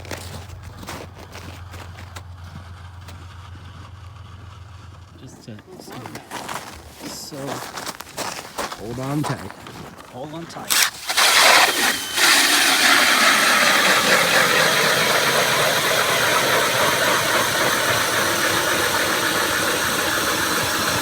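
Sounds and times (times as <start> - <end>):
motorized ice auger drilling: 0.0 - 21.0.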